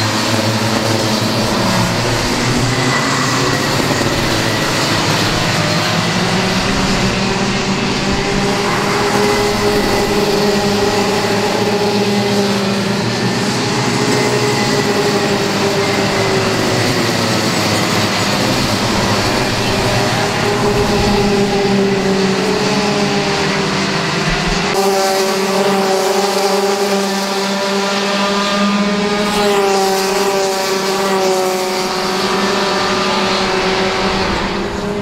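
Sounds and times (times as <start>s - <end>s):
racing kart engines: 0.0s - 35.0s.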